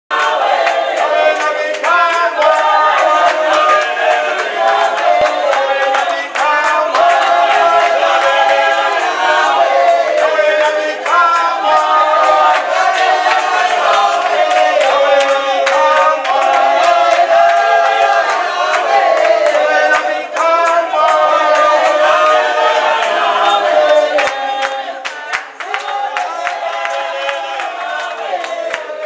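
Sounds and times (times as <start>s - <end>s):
steady drum beat: 0.1s - 24.4s
women singing in chorus: 0.1s - 29.0s.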